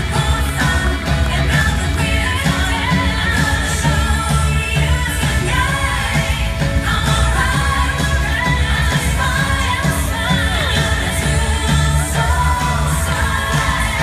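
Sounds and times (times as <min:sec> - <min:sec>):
loud pop music with singing: 0:00.0 - 0:14.0.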